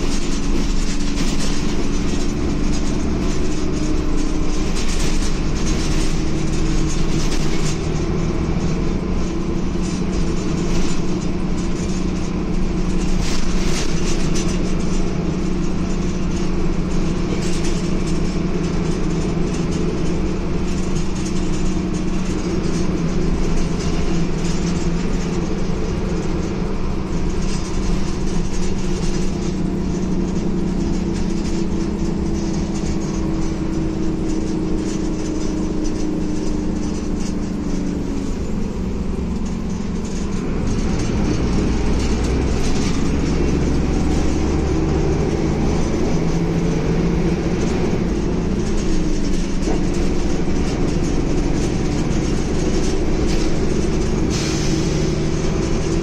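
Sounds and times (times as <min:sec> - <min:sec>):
cabin fittings rattling: 0:00.0 - 0:46.4
bus engine drone: 0:00.0 - 0:56.0
road and tyre noise: 0:00.0 - 0:56.0.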